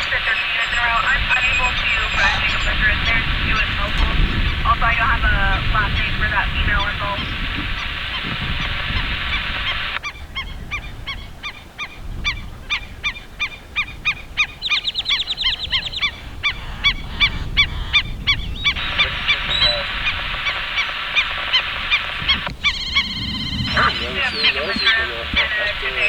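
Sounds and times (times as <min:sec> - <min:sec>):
birds making sharp high calls: 0:00.0 - 0:26.0.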